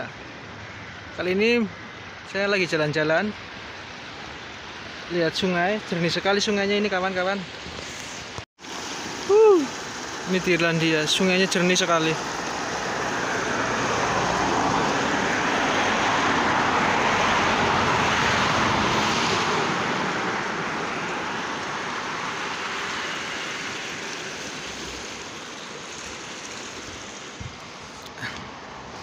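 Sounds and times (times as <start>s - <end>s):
river water rushing over weir: 1.9s - 29.0s.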